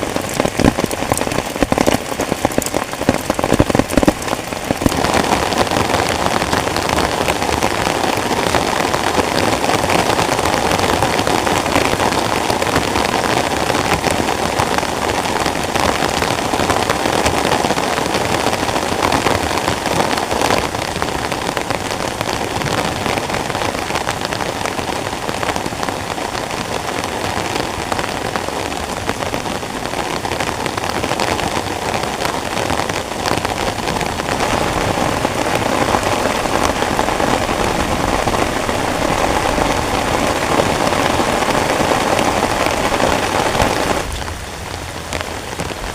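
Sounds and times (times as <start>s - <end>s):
heavy rain on a tent: 0.0s - 45.9s.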